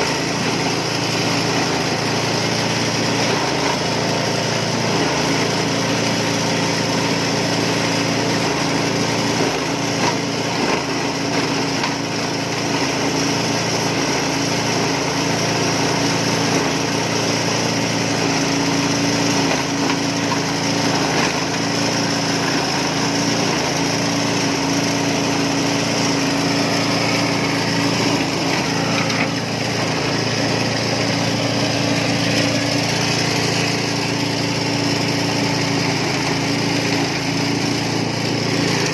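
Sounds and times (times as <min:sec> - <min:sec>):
shredder machine running: 0:00.0 - 0:38.9.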